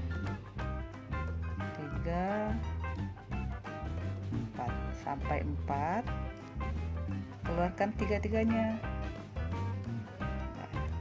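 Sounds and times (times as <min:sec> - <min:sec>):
music with steady bass beat: 0:00.0 - 0:11.0.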